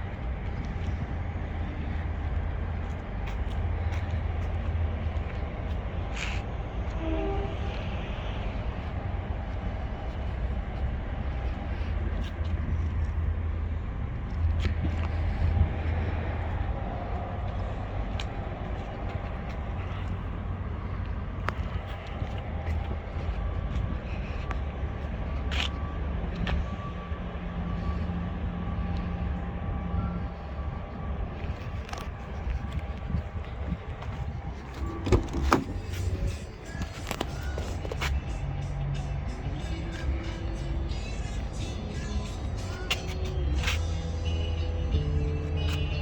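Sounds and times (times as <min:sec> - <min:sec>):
car engine low rumble: 0:00.0 - 0:46.0.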